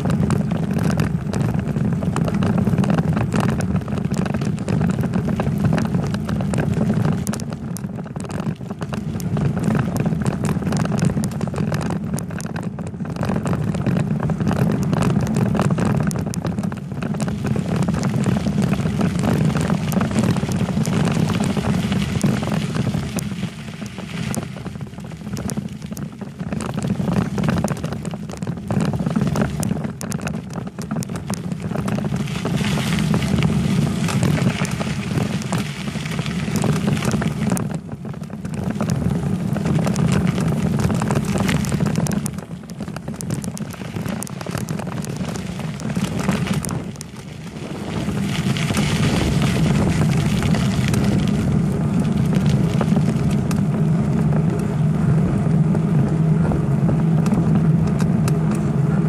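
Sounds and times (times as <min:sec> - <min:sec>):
bicycle clicks and rattles: 0:00.0 - 0:54.6
wind and road rumble: 0:00.0 - 0:59.0.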